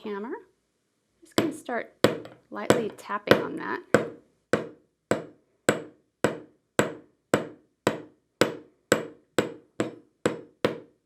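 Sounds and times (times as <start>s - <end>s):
hammer tapping metal wire: 1.4s - 11.0s.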